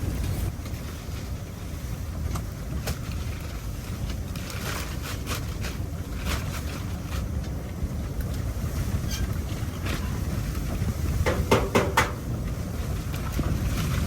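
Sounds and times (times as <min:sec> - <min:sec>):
blizzard wind buffeting microphone: 0:00.0 - 0:14.0.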